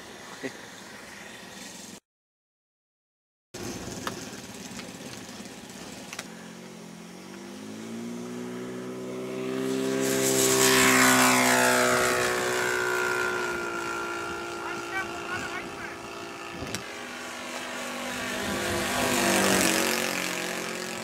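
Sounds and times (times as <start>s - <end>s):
propeller engine droning: 3.6s - 21.0s.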